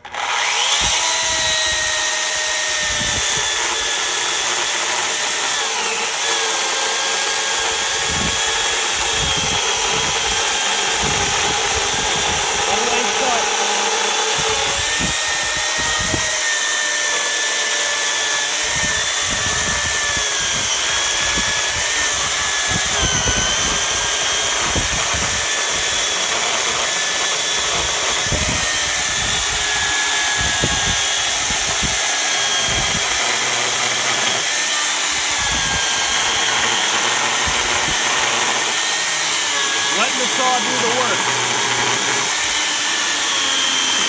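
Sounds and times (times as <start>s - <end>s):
electric chainsaw cutting log: 0.0s - 44.0s.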